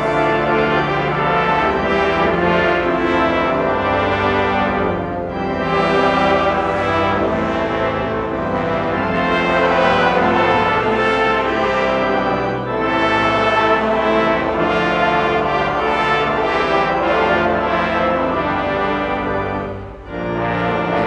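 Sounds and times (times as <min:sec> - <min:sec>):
brass ensemble playing chords: 0:00.0 - 0:21.0.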